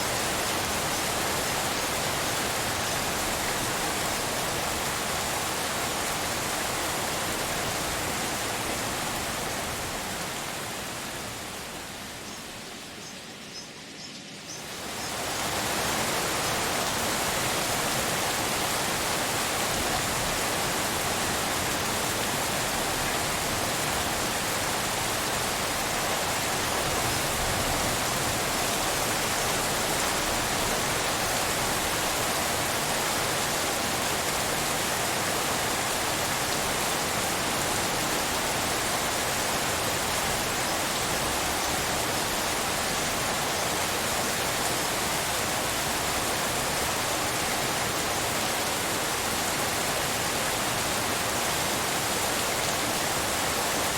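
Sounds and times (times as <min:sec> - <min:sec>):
rain hiss: 0:00.0 - 0:53.9.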